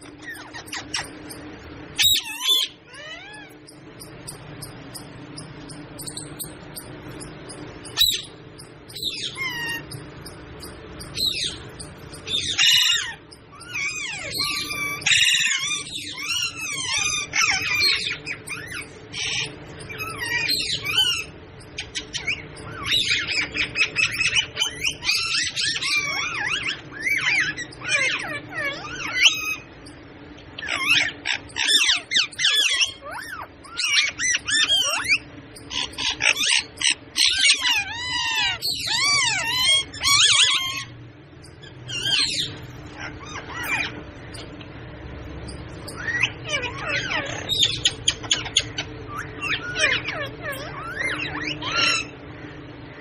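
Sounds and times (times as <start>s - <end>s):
parrot warbling: 0.1s - 1.4s, 2.0s - 29.7s, 30.6s - 44.6s, 45.8s - 52.2s.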